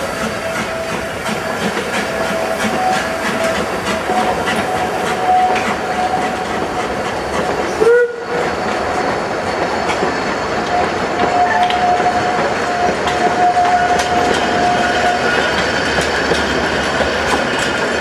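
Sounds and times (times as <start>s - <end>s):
wheels clicking over rail joints: 0.2s - 18.0s.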